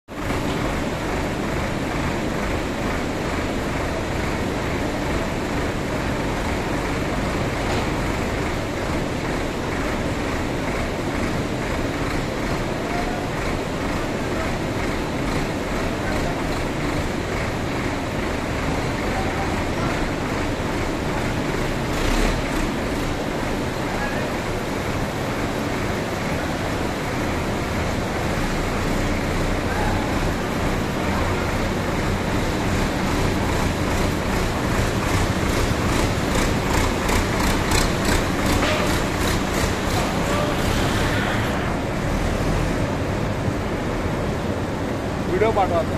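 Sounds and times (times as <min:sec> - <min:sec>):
tractor diesel engine running: 0:00.1 - 0:45.9.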